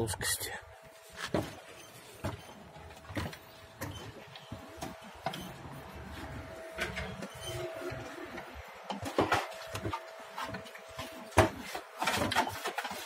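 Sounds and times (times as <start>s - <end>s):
plastering knocks and scrapes: 1.1s - 13.0s.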